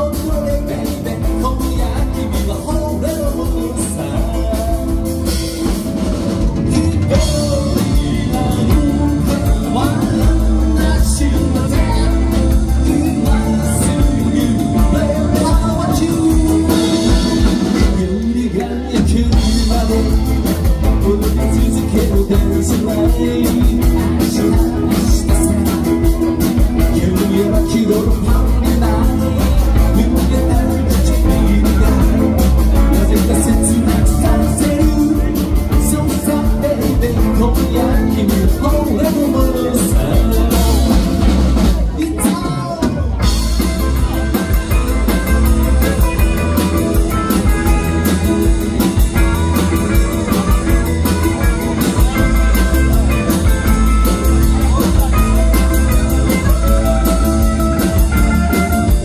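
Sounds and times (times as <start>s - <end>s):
live rock band playing: 0.0s - 59.0s
man singing: 0.0s - 59.0s.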